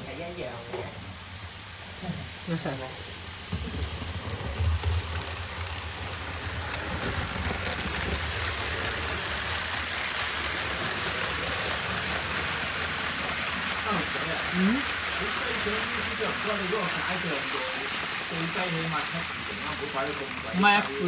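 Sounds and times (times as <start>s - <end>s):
model train motor running: 0.0s - 21.0s
model train wheels rumbling: 0.0s - 21.0s.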